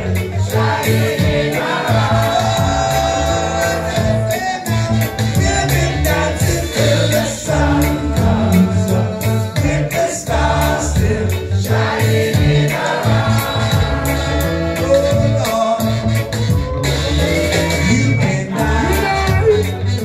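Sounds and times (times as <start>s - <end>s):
person singing: 0.0s - 11.5s, 12.4s - 20.0s
bass line: 0.0s - 20.0s
ska reggae band playing: 0.0s - 20.0s.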